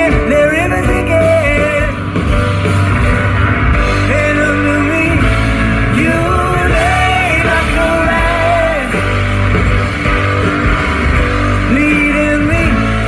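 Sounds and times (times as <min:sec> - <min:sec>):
man singing: 0:00.0 - 0:02.9, 0:03.8 - 0:13.0
guitar: 0:00.0 - 0:13.0
steady bass: 0:00.0 - 0:13.0.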